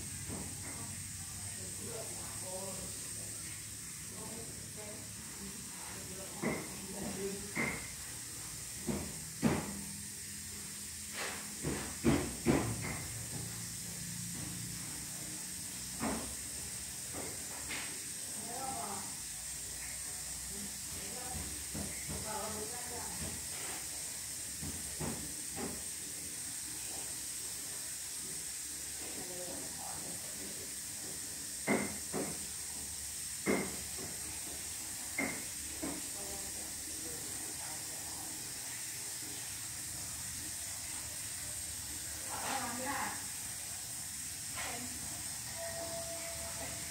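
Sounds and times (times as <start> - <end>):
steady high hiss: 0.0 - 46.9.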